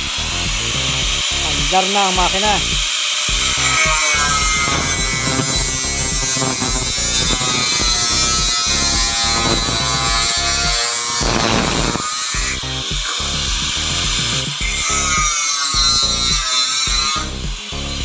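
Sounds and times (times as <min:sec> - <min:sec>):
angle grinder cutting steel: 0:00.0 - 0:18.0
background music: 0:00.0 - 0:18.0.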